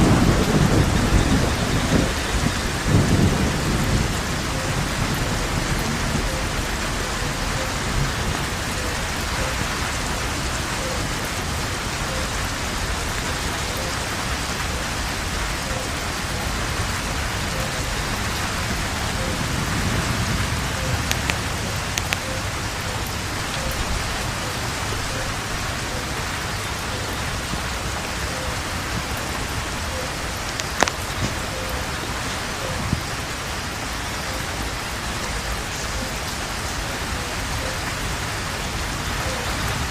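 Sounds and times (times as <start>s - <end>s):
rain drop hits: 0.0s - 39.9s
steady rain falling: 0.0s - 39.9s.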